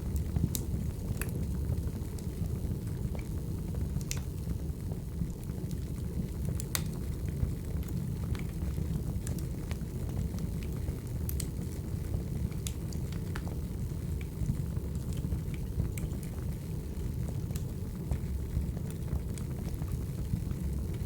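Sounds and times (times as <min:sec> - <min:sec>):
low fire rumble: 0:00.0 - 0:21.0
wood fire crackling: 0:00.0 - 0:21.0.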